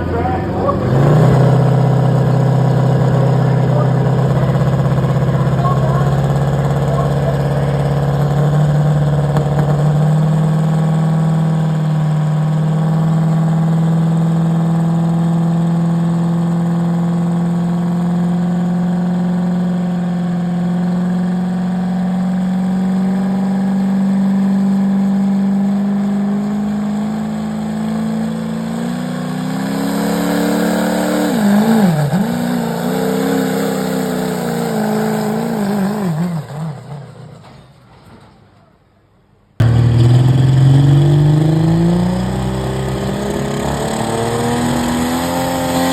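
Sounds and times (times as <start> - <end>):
diesel engine at high revs: 0.0 - 37.5, 39.6 - 45.9.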